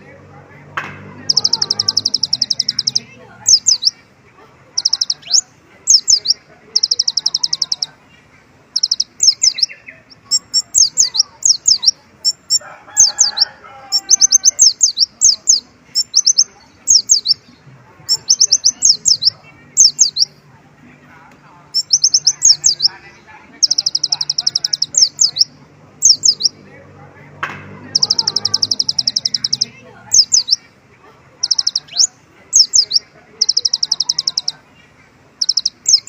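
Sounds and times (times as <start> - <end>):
songbird trilling: 1.2 - 4.0, 4.7 - 8.0, 8.7 - 20.4, 21.7 - 26.6, 27.8 - 30.7, 31.4 - 34.6, 35.3 - 36.0.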